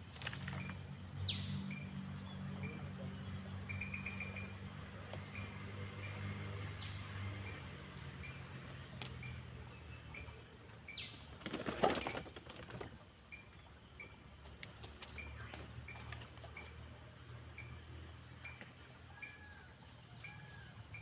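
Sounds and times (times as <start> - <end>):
bird chirping: 0.3 - 21.0.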